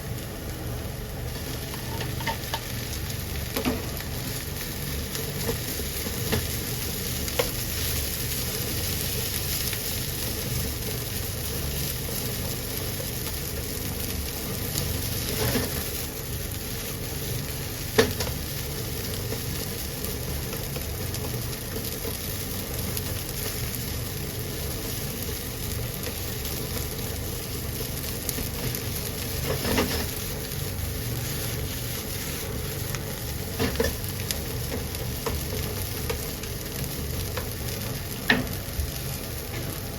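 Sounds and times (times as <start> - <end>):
rice sizzling in a frying pan: 0.0 - 39.9.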